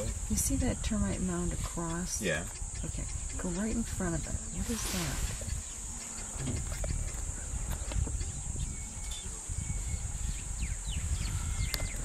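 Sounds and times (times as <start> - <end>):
bird chirps: 0.0 - 12.0
insect drone: 0.0 - 12.0.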